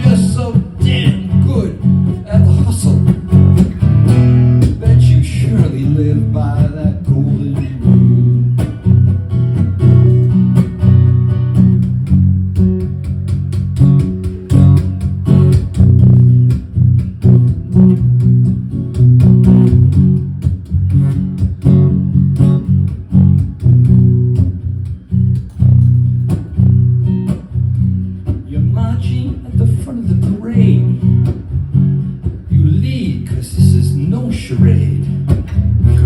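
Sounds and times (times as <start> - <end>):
bass line: 0.0 - 36.0
rhythm guitar: 0.0 - 36.0.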